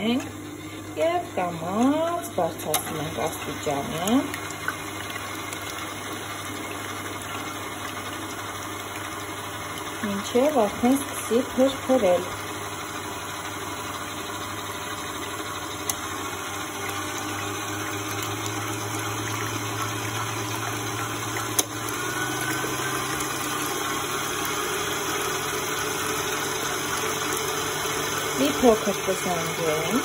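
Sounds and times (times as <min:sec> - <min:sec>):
stand mixer motor hum: 0:00.0 - 0:30.0.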